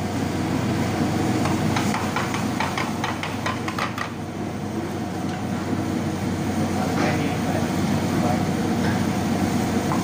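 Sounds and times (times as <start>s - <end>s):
gas burner flame drone: 0.0s - 10.0s.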